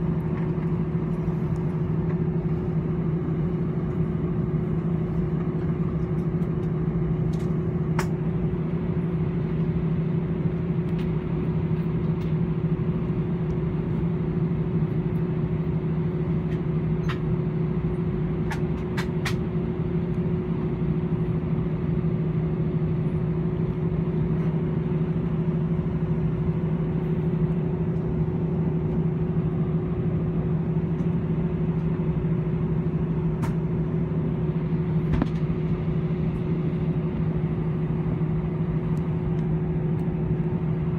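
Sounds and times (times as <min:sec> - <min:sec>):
aircraft cabin hum: 0:00.0 - 0:40.9.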